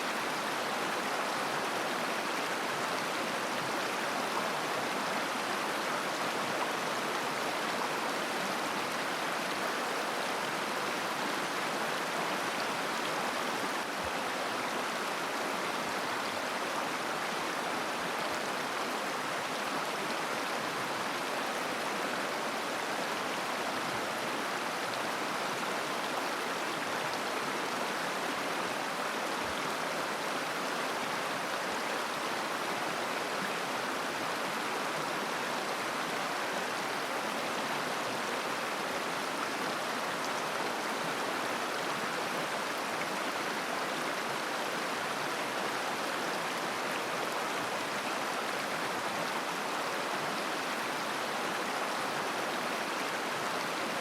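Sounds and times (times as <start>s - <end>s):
river babbling over stones: 0.0s - 54.0s.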